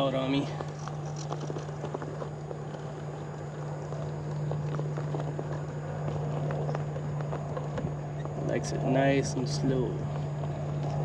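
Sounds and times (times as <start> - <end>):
electric motor and gear whine: 0.0 - 11.0.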